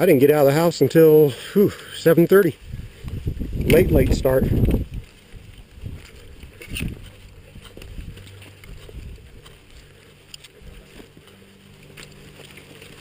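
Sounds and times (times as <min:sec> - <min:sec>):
footsteps on dirt trail: 0:00.0 - 0:13.0
gear rustling: 0:02.5 - 0:13.0
low microphone rumble: 0:02.5 - 0:13.0.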